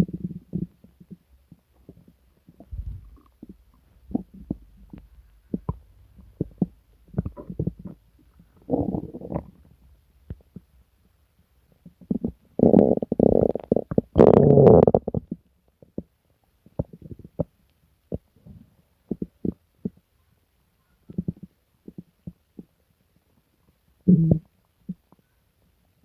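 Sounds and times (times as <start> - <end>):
stomach rumbling and gurgling: 0.0 - 10.8, 11.7 - 20.1, 21.0 - 25.3.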